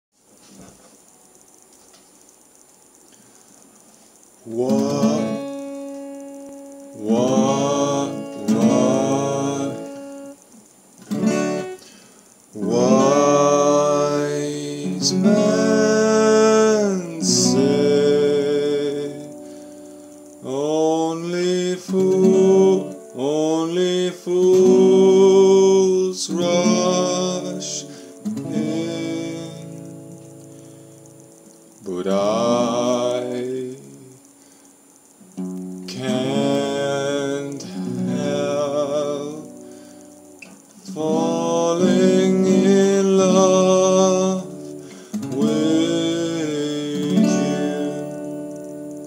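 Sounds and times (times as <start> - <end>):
acoustic guitar chords: 2.9 - 49.0
man singing softly: 4.2 - 10.4, 12.5 - 19.7, 20.3 - 30.5, 31.7 - 34.4, 35.8 - 49.0.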